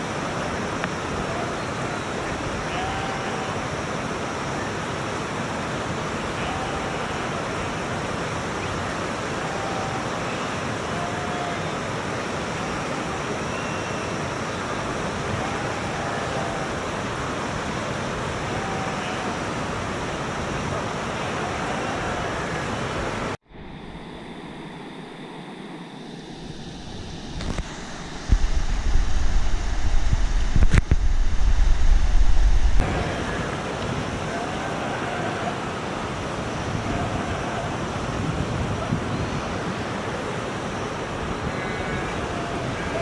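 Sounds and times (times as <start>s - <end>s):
steady rushing noise: 0.0s - 43.0s.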